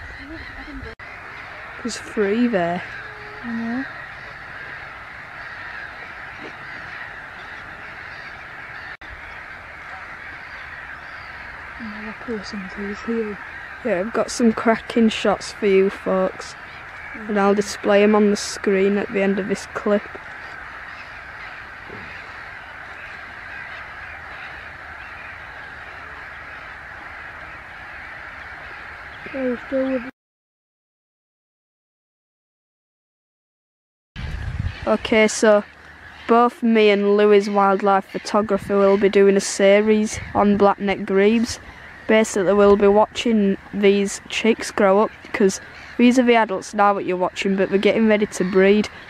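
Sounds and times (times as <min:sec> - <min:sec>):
distant waterbirds calling: 0:00.0 - 0:30.1, 0:34.2 - 0:49.0.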